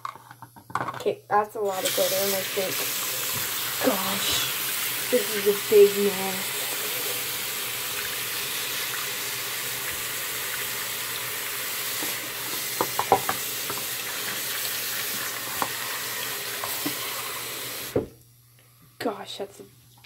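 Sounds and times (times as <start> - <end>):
tap water running into sink: 1.7 - 18.1.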